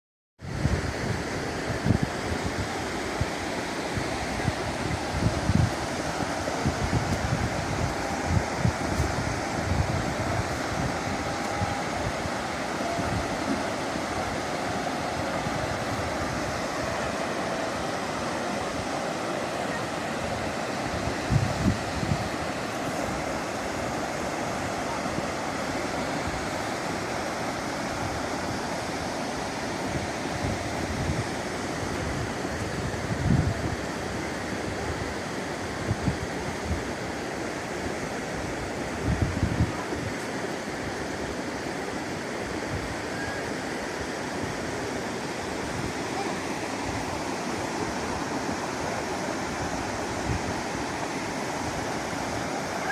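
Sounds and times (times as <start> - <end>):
wind buffeting microphone: 0.4 - 37.2, 38.2 - 41.4, 42.1 - 52.9
flood water rushing: 0.4 - 52.9.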